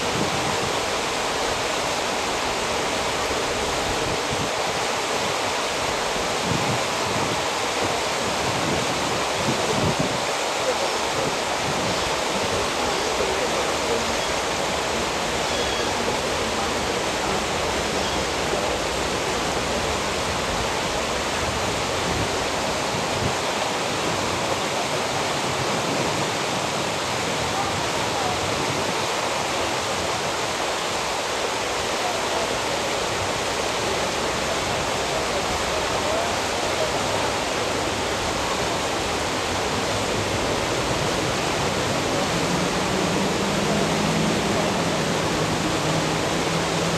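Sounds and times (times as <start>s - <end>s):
churning water rushing: 0.0s - 46.9s.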